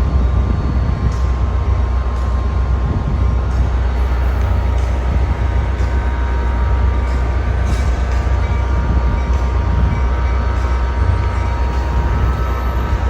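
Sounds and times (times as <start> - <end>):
faint steady whine: 0.0 - 13.0
train rumbling: 0.0 - 13.0.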